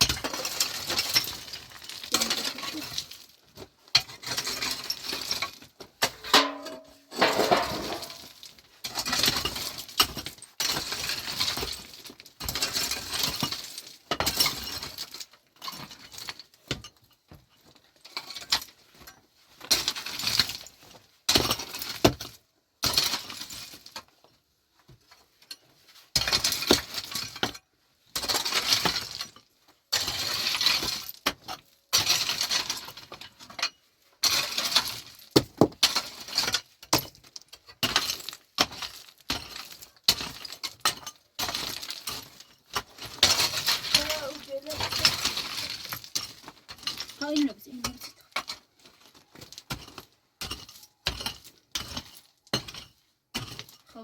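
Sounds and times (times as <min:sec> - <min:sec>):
hard objects clattering and clinking: 0:00.0 - 0:24.2, 0:24.9 - 0:54.0.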